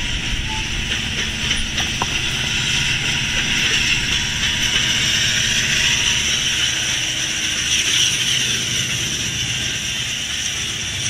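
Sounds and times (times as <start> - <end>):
diesel locomotive drone: 0.0 - 11.0
train wheels rattling on rails: 0.0 - 11.0.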